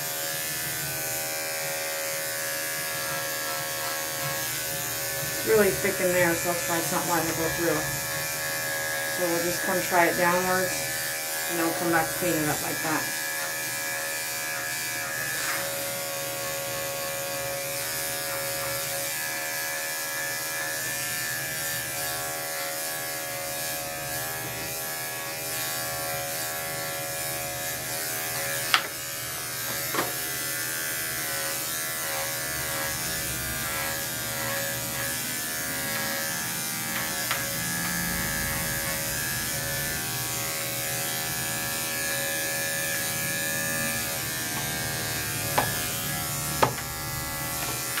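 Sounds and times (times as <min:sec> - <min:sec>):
electric clipper humming: 0:00.0 - 0:48.0.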